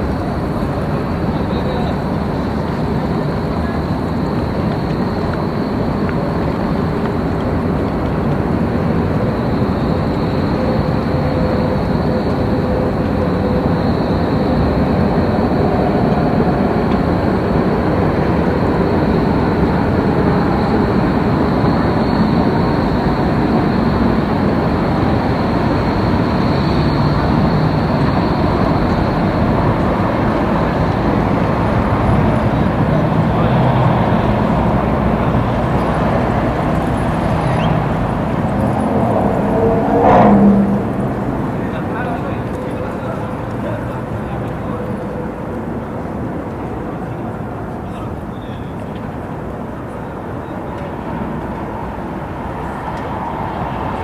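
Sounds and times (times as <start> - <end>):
rumble of road and rail traffic: 0.0 - 54.0.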